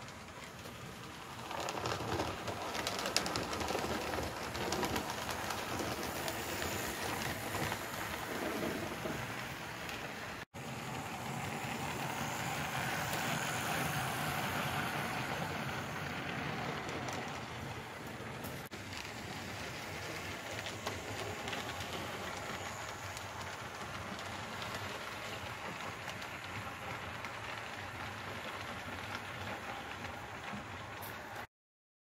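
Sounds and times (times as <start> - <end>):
model train wheels rattling: 0.0 - 10.4, 11.2 - 31.4.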